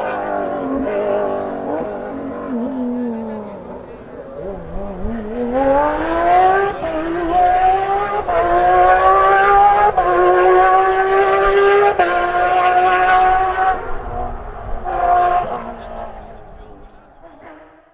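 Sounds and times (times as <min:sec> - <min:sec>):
rally car engine accelerating: 0:00.0 - 0:17.9.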